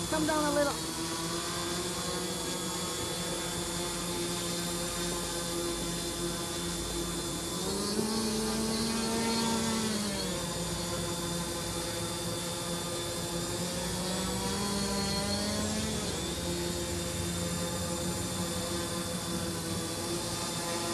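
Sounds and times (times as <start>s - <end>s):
drone motors humming: 0.0s - 20.9s.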